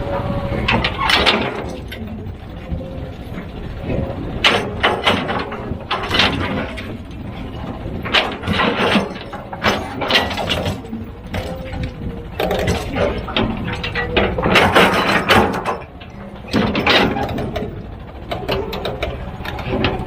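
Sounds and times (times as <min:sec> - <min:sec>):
heavy machine engine running: 0:00.0 - 0:20.0
metallic clanking and rattling: 0:00.6 - 0:20.0.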